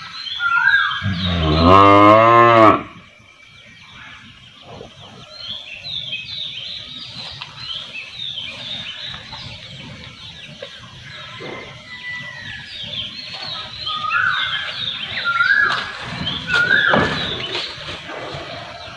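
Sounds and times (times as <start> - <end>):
small birds chirping: 3.1 - 18.9.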